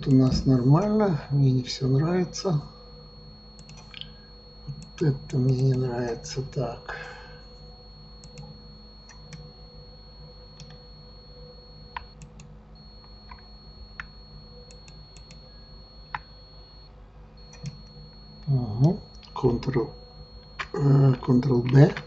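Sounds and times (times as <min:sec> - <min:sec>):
faint high whine and hum: 0:00.0 - 0:22.0.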